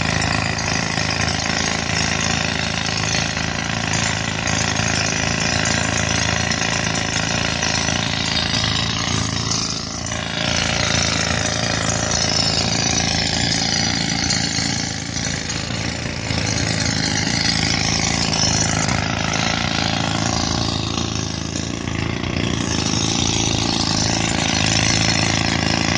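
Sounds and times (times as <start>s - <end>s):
air compressor engine running: 0.0s - 25.9s
pneumatic rock drills hammering stone: 0.0s - 25.9s.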